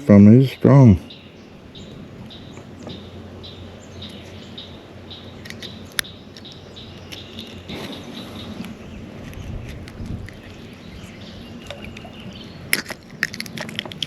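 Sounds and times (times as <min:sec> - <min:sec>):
outdoor hiss: 0:00.0 - 0:14.0
small birds chirping: 0:00.0 - 0:14.0.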